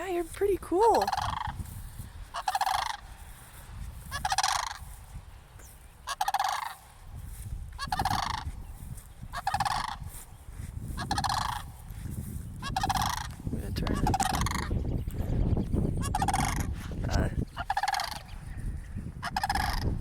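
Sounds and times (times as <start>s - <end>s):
cranes calling: 0.0s - 20.0s.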